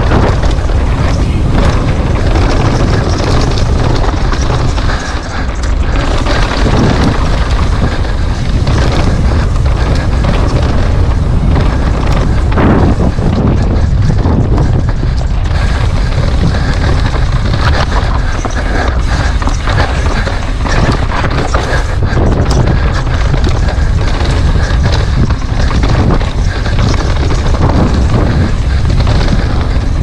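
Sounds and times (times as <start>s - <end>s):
bike rattling over rough trail: 0.0s - 30.0s
wind buffeting microphone: 0.0s - 30.0s.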